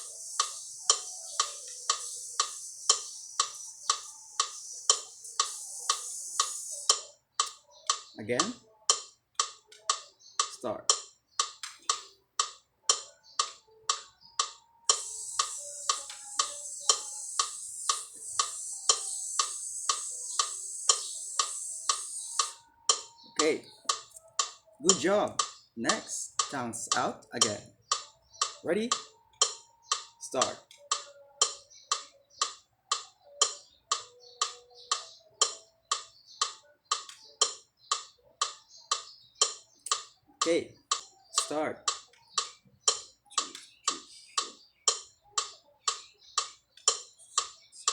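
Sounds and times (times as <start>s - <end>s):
metronome ticking: 0.0s - 47.9s.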